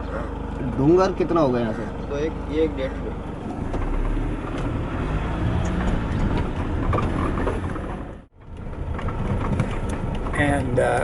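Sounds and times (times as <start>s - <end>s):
road rumble: 0.0s - 11.0s
van engine: 0.0s - 11.0s.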